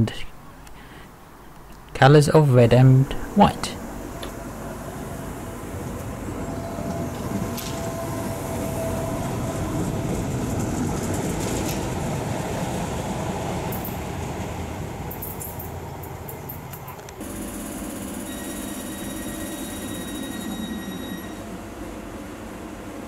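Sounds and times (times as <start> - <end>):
faint train whine: 0.4 - 23.0
train rumbling past: 2.7 - 17.3, 18.2 - 23.0.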